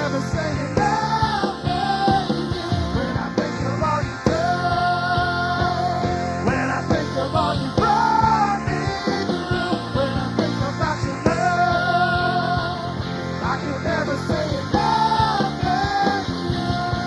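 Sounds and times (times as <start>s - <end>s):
rock-style worship band playing: 0.0s - 17.0s
steady drum beat: 0.0s - 17.0s.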